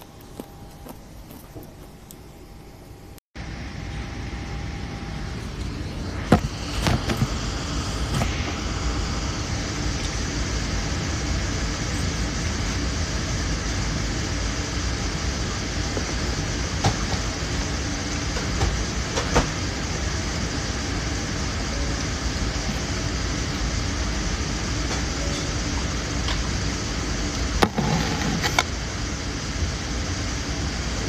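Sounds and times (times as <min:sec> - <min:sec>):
airliner cabin roar: 0:00.0 - 0:31.0.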